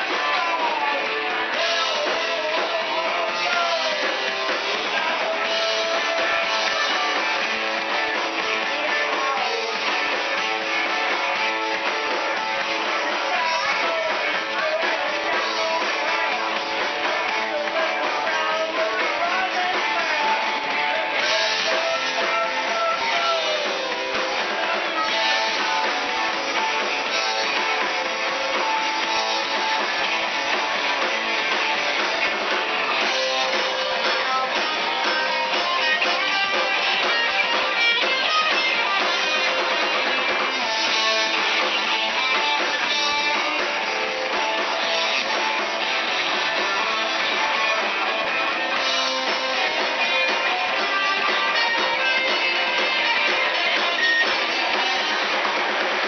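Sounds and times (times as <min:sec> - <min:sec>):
drums: 0:00.0 - 0:56.0
electric guitar: 0:00.0 - 0:56.0
live band playing: 0:00.0 - 0:56.0.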